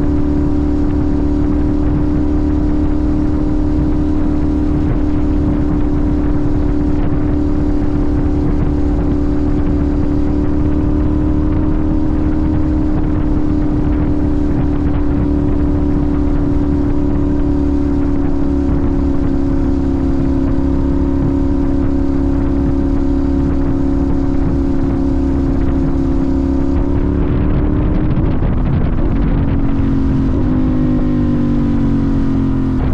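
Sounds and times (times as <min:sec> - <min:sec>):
low rushing noise: 0:00.0 - 0:32.9
motorcycle engine cruising: 0:00.0 - 0:32.9.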